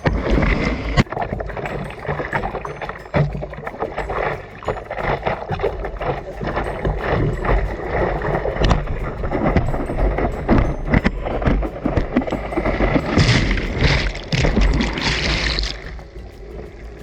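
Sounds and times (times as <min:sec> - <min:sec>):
seawater splashing: 0:00.0 - 0:17.0
wind buffeting microphone: 0:00.0 - 0:17.0.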